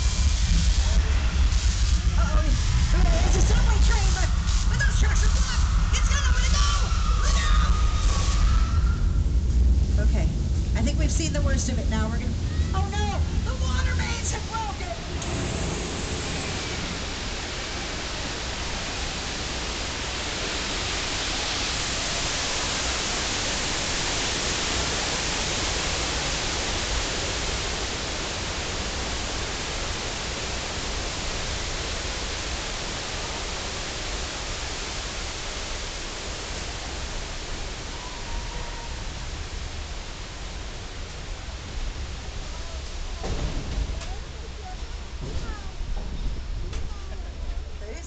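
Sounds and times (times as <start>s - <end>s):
water rushing and crashing: 0.0s - 10.7s, 11.8s - 48.0s
low rumble: 0.0s - 48.0s.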